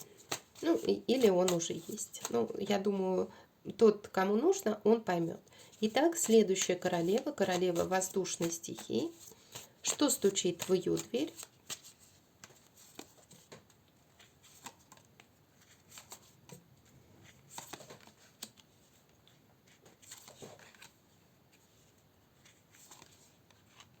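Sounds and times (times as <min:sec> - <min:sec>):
cards rustling and clicking: 0:00.0 - 0:02.6, 0:05.6 - 0:16.6, 0:17.2 - 0:21.0, 0:21.6 - 0:24.0.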